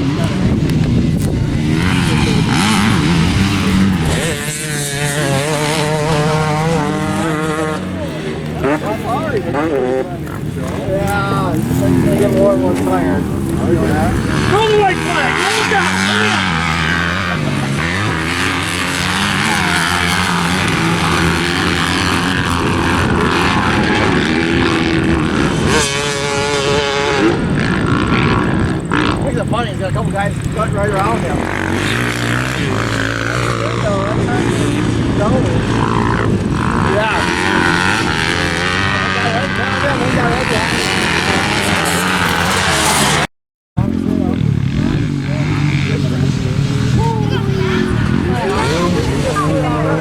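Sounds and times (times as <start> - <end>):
dirt bike engine revving: 0.0 - 50.0
low drone of dirt bikes: 0.0 - 50.0.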